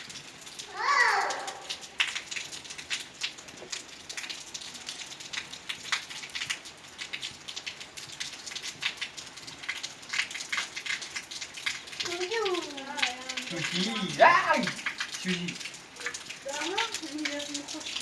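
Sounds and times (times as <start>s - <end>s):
rain pattering on a roof: 0.0s - 18.0s
sharp drips: 0.0s - 18.0s.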